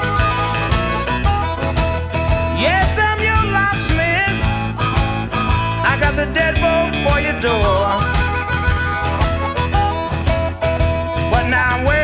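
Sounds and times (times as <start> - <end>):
blues band playing: 0.0 - 12.0
electric guitar bending notes: 0.0 - 12.0.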